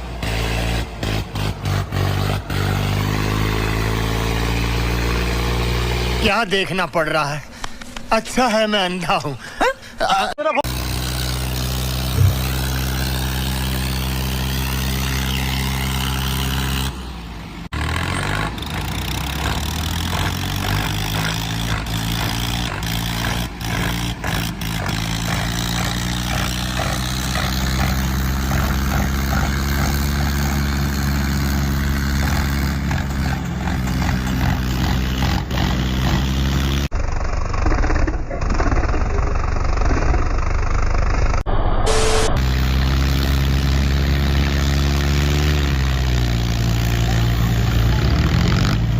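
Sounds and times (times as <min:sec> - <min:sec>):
tractor diesel engines under load: 0:00.0 - 0:48.9.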